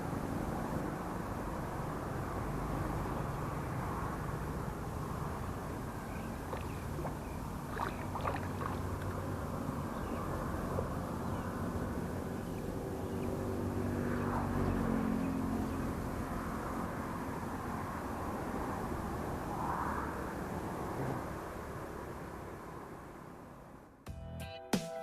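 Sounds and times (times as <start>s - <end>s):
engine hum: 0.0s - 24.0s.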